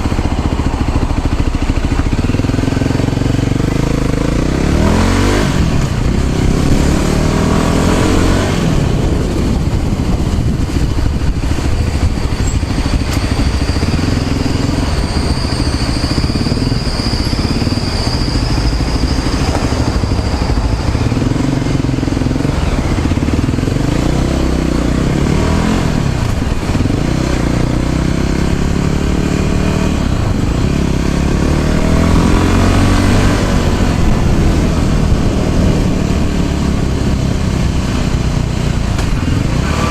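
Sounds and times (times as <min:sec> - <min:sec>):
motor scooter engine: 0:00.0 - 0:39.9.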